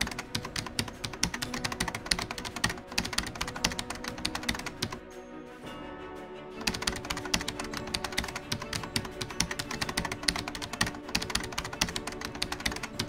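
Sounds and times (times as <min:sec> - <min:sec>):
keyboard key clicks: 0:00.0 - 0:05.0, 0:06.6 - 0:13.0
soft background music: 0:00.0 - 0:13.0.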